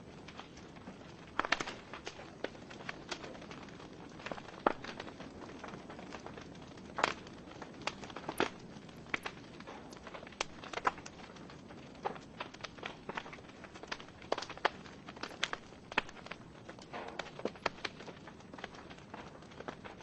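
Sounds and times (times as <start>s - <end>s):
logs crackling and popping: 0.0s - 20.0s.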